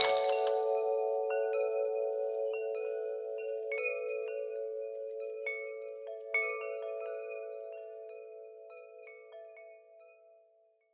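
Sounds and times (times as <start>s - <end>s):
wind chimes ringing: 0.0s - 10.4s.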